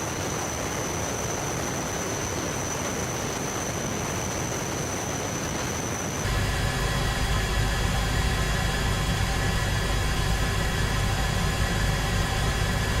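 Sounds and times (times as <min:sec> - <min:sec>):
aircraft engines droning: 0:00.0 - 0:13.0
faint steady whines: 0:00.0 - 0:13.0.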